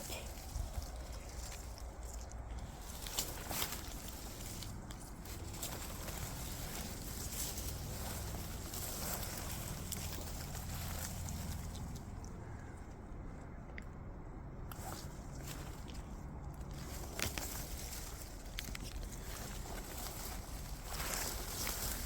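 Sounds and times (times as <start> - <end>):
footsteps in undergrowth: 0.0 - 13.1, 14.7 - 22.0
branches and dry leaves rustling: 0.0 - 22.0
steady low rumble: 0.0 - 22.0.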